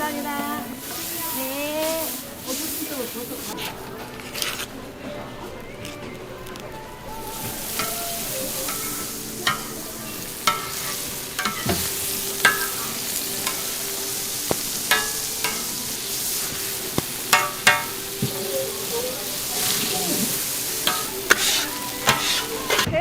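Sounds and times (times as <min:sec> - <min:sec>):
food sizzling on a griddle: 0:00.0 - 0:04.7, 0:05.5 - 0:23.0
utensils clicking on a griddle: 0:00.8 - 0:04.7, 0:05.8 - 0:22.9.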